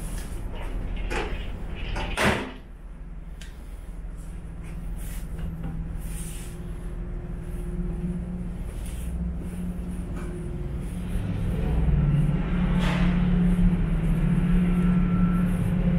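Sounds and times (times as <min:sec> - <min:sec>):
ferry engine humming: 0:00.0 - 0:15.9.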